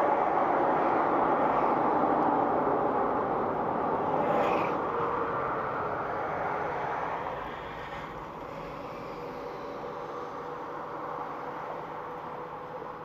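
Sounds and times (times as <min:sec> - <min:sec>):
road and engine noise: 0:00.0 - 0:13.0.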